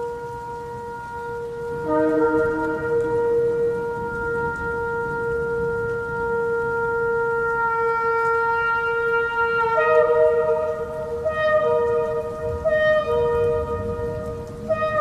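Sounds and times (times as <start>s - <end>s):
ram's horn blast: 0.0s - 15.0s.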